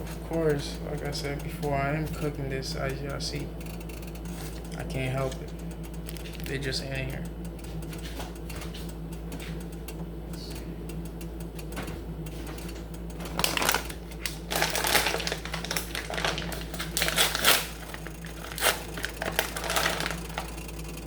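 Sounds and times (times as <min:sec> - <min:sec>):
utensils rattling in cooking pan: 0:00.0 - 0:09.8, 0:11.4 - 0:21.0
steady low hum: 0:00.0 - 0:21.0.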